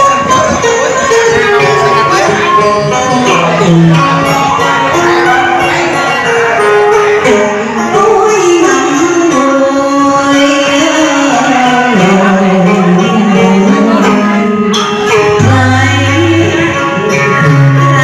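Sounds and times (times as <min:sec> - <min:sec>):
plucked string accompaniment: 0:00.0 - 0:18.0.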